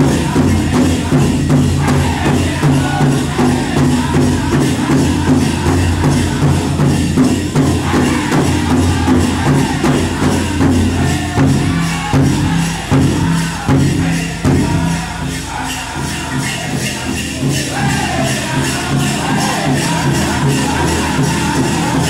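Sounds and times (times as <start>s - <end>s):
group singing: 0.0s - 22.0s
jingling bells: 0.0s - 22.0s
steady drumbeat: 0.0s - 22.0s.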